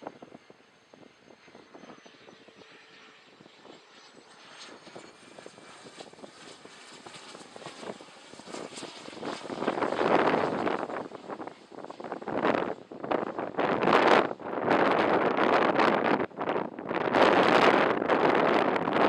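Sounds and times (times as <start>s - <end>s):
high engine whine: 0.0s - 19.0s
jet engines roaring: 0.0s - 19.0s
wind buffeting microphone: 0.0s - 19.0s.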